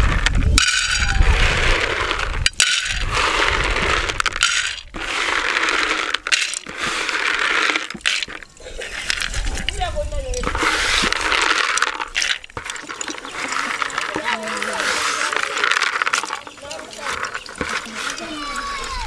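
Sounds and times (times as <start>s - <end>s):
peanuts clattering in metal pan: 0.0s - 19.0s.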